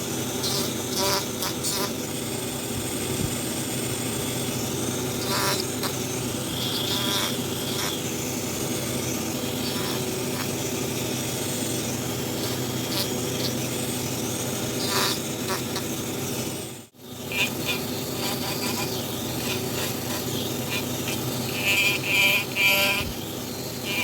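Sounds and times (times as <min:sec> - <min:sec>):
power carving tool buzzing whine: 0:00.0 - 0:24.0.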